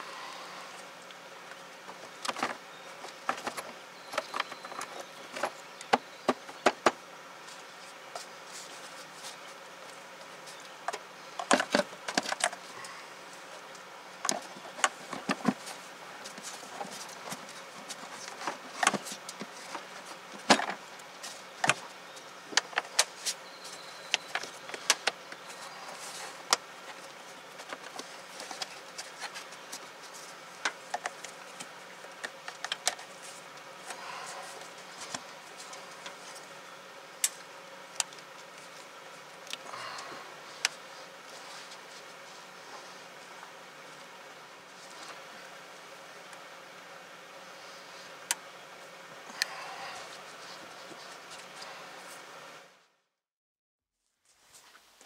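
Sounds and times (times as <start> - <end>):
faint steady hum: 0.0 - 53.2.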